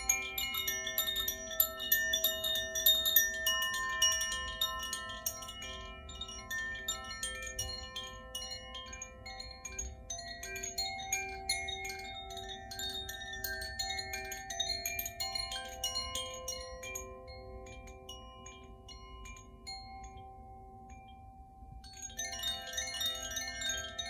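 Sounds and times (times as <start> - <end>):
wind chime ringing: 0.0 - 24.0.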